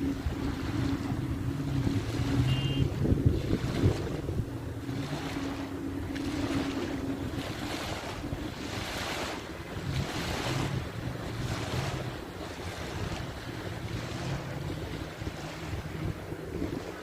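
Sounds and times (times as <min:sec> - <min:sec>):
low steady hum: 0:00.0 - 0:17.0
surf washing onto beach: 0:00.0 - 0:17.0
wind buffeting microphone: 0:00.0 - 0:17.0.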